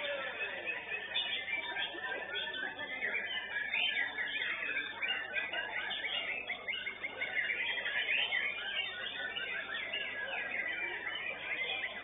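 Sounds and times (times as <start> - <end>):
songbirds whistling and trilling: 0.0 - 12.0.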